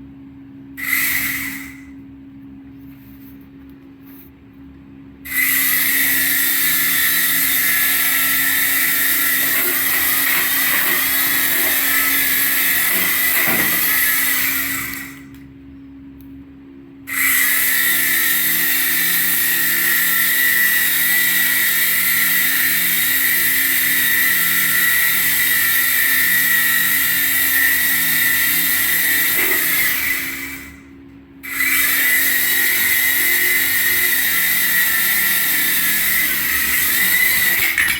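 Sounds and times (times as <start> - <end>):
toy helicopter motor whine: 0.8 - 2.0, 5.3 - 15.4, 17.1 - 37.9.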